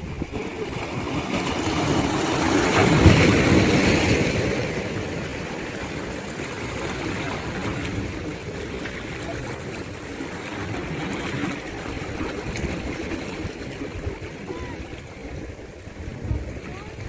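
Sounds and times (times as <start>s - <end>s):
calm sea waves washing: 0.0s - 17.0s.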